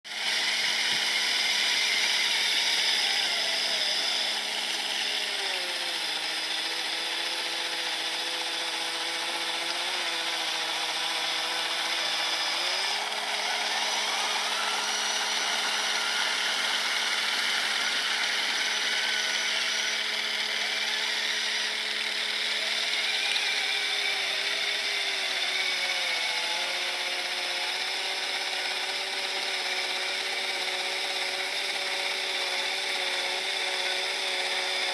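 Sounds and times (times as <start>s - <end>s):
electric motor whining: 0.1s - 34.9s.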